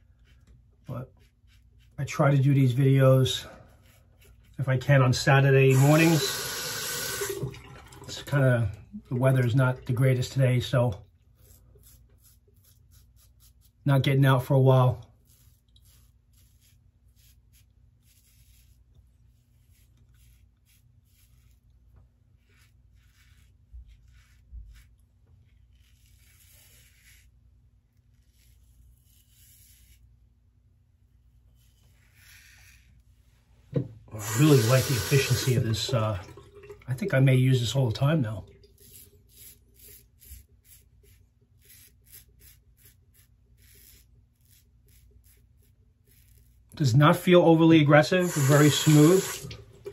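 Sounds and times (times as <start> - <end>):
razor scratching stubble: 0.0 - 7.3, 9.2 - 30.4, 31.4 - 33.2, 34.1 - 36.1, 37.2 - 49.9.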